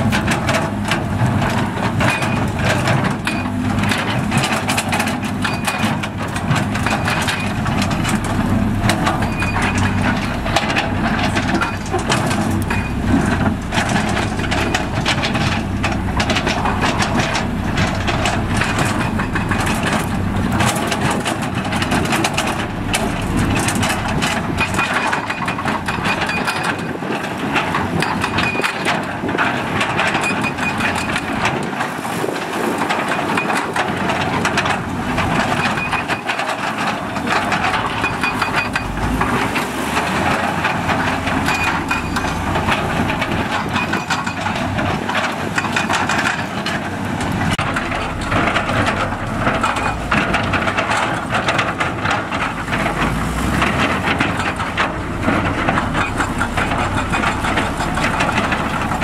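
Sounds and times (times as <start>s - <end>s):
diesel engine drone: 0.0s - 59.0s
rock and earth knocking and scraping: 0.0s - 59.0s.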